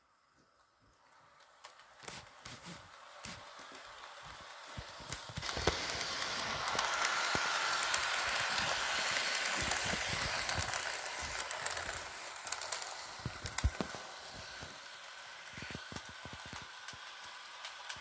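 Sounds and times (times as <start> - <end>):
model train wheels rumbling and clicking: 0.5 - 18.0.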